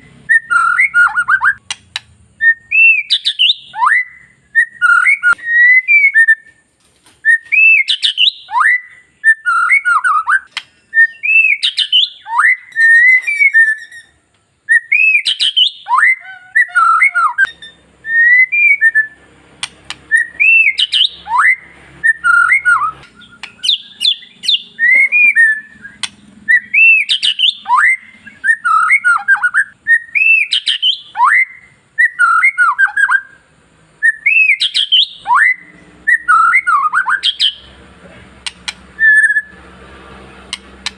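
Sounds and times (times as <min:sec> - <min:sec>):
bird singing whistled phrases: 0:00.3 - 0:01.8, 0:02.4 - 0:06.6, 0:07.2 - 0:33.4, 0:34.0 - 0:37.7, 0:38.4 - 0:39.6.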